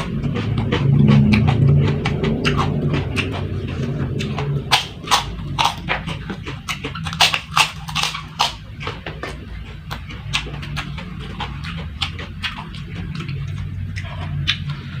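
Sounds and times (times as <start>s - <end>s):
chewing crunches: 0.0s - 15.0s.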